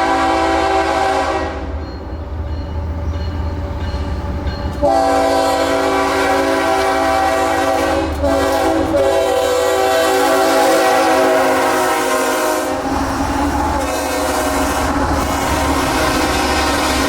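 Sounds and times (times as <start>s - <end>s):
locomotive air horn: 0.0s - 1.7s, 4.8s - 17.0s
rumble of passing train: 0.0s - 17.0s.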